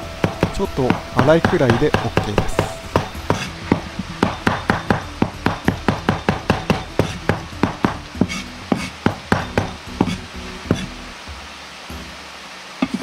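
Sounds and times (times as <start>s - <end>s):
cleaver chopping on cutting board: 0.2s - 10.9s.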